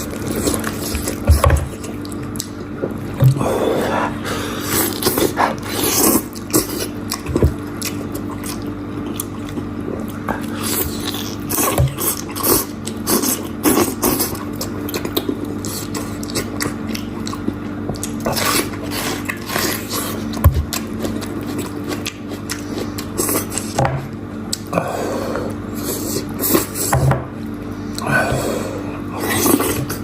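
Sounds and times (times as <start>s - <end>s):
person chewing and biting: 0.0s - 3.4s, 4.1s - 24.8s
steady low hum: 0.0s - 30.0s.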